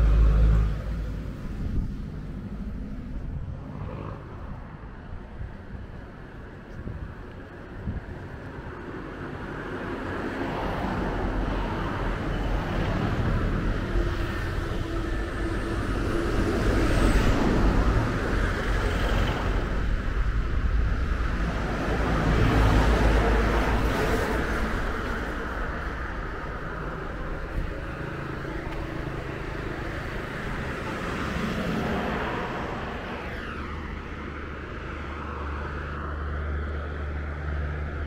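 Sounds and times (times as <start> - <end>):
low traffic rumble: 0.0 - 38.0
vehicles passing on road: 0.0 - 38.0.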